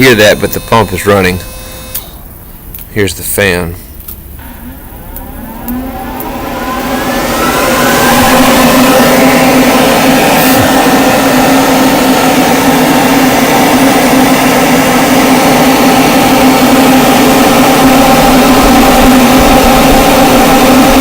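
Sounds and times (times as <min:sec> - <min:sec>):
cooler blower fan running: 0:00.0 - 0:21.0.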